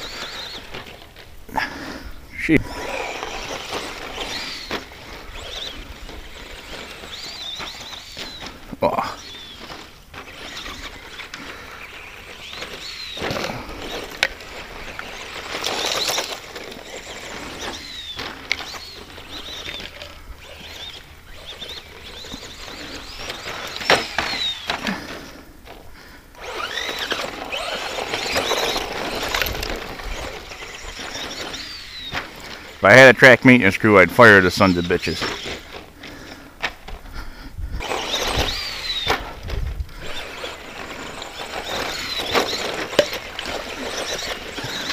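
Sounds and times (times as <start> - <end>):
electric motor whine: 0.0 - 1.5, 2.5 - 32.8, 37.7 - 44.9
tyres crunching on dirt: 0.0 - 44.9.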